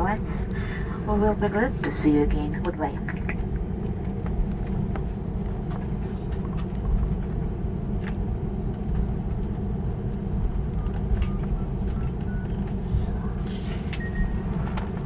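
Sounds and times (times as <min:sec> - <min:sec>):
aircraft engines idling: 0:00.0 - 0:15.0.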